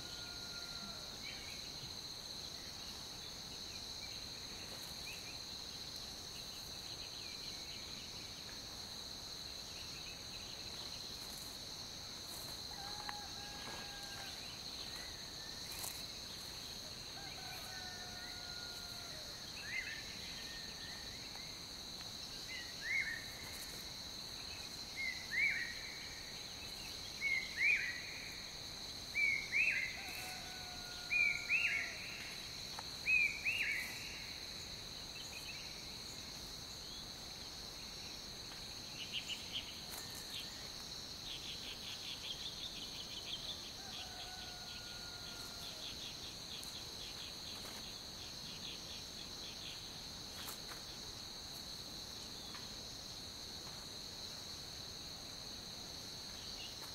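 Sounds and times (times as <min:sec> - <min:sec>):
high-pitched insect chorus: 0:00.0 - 0:56.9.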